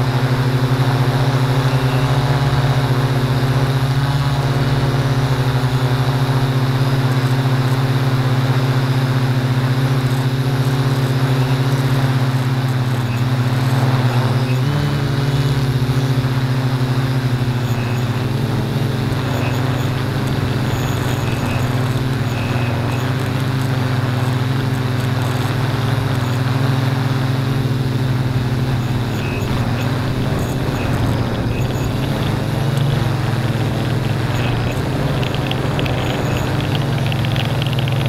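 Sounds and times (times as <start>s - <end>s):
drone motors humming: 0.0s - 38.0s.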